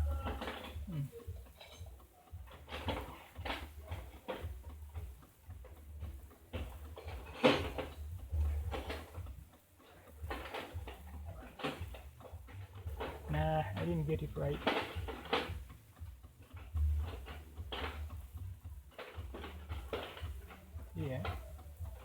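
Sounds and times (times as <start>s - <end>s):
car engine idling unevenly: 0.0s - 22.0s
engine clicks and knocks: 0.0s - 22.0s.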